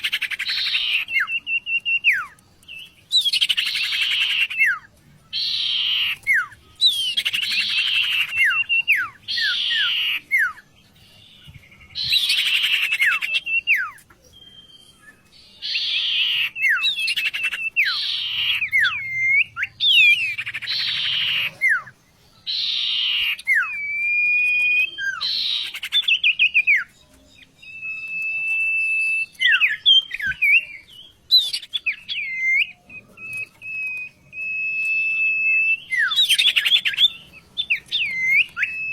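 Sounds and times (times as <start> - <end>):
bird whistling: 0.0 - 38.9
songbird singing scratchy bursts: 0.0 - 38.9.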